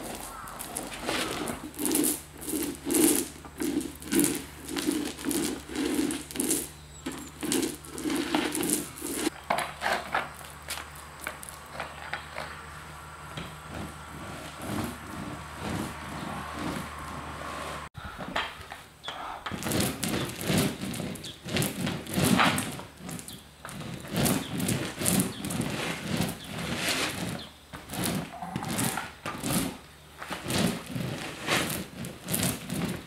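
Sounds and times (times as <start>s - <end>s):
paint roller scraping: 0.0s - 17.9s, 19.4s - 33.0s.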